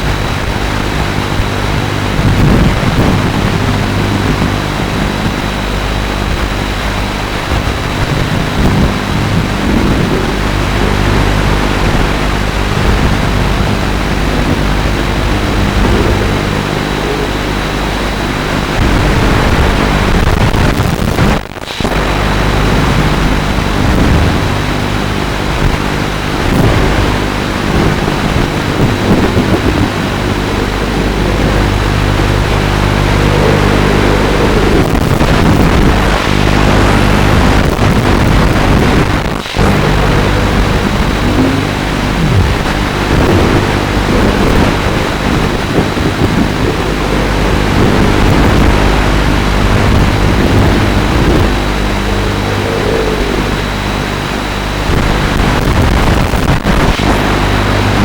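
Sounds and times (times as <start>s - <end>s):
drone motors buzzing: 0.0s - 58.0s
wind rush over microphone: 0.0s - 58.0s.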